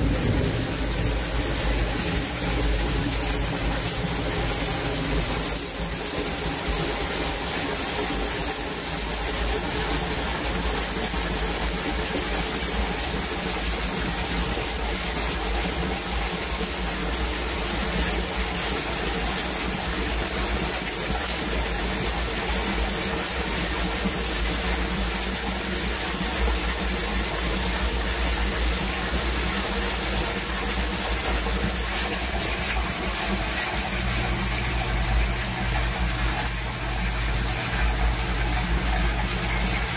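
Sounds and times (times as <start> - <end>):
water gushing into water: 0.0 - 39.9.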